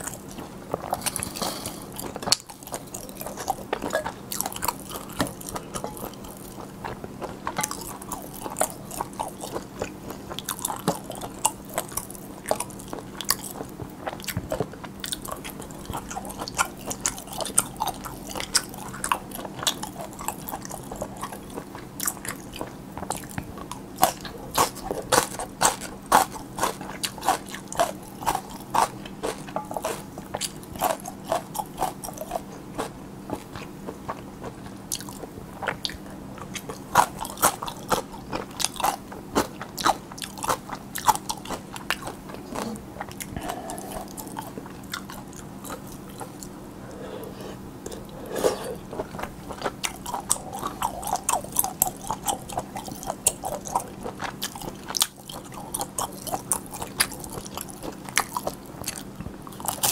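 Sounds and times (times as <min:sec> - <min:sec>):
crisp chewing crunches: 0:00.0 - 0:46.6, 0:47.8 - 0:59.9.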